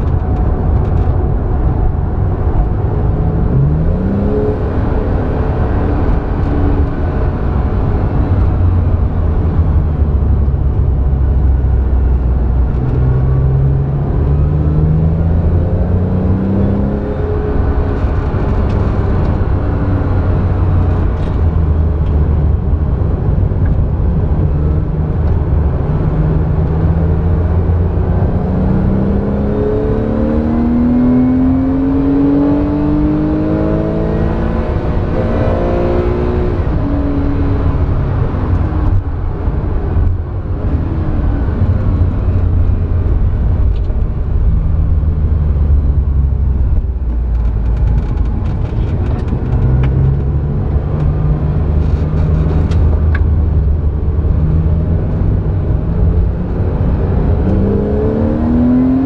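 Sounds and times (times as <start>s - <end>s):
car engine accelerating: 0.0s - 59.0s
road and tyre rumble: 0.0s - 59.0s.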